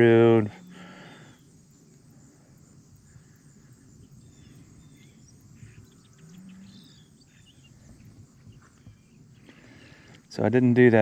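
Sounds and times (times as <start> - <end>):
faint bird chirps: 0.4 - 10.1.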